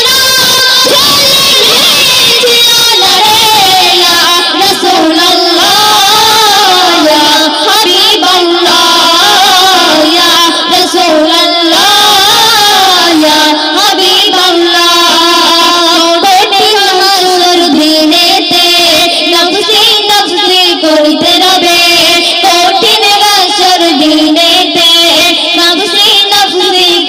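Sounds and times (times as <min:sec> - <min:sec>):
two women singing: 0:00.0 - 0:27.0.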